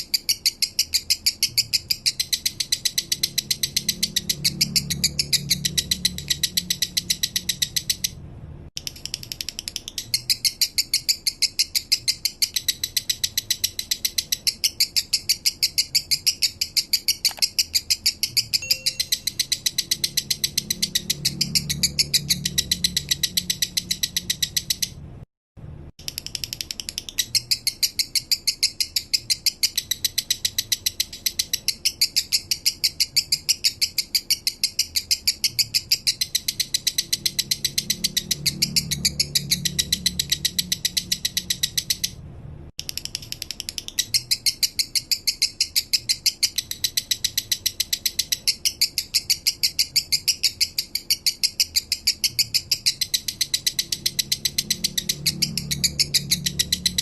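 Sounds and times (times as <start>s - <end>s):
lovebird chirping: 0.0s - 8.2s, 8.9s - 25.0s, 26.2s - 42.2s, 42.9s - 57.0s.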